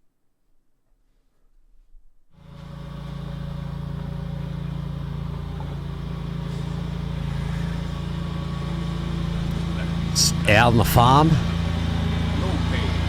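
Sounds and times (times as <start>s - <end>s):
engine idling: 2.4s - 13.0s.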